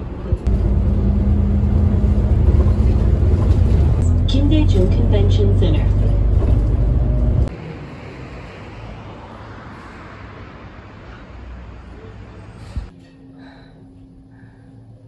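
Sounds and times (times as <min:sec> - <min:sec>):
bus engine rumble and road noise: 0:00.0 - 0:13.3.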